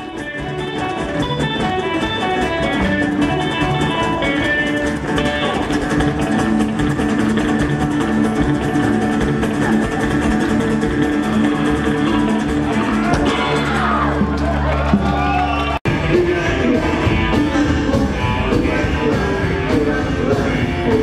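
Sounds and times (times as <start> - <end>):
guitar picking quick runs: 0.0 - 21.0
rockabilly band playing: 0.0 - 21.0.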